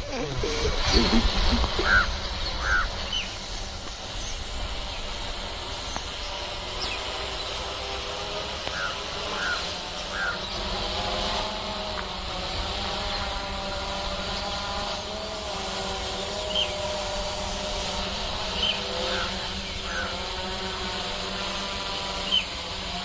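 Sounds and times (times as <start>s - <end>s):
birds chirping: 0.0s - 23.0s
drone motors humming: 0.0s - 23.0s.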